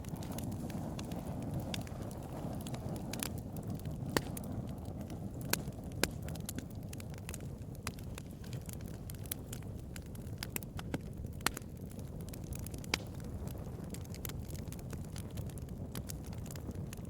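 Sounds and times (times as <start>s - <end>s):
bonfire rumbling: 0.0s - 17.0s
fire popping and snapping: 0.0s - 17.0s.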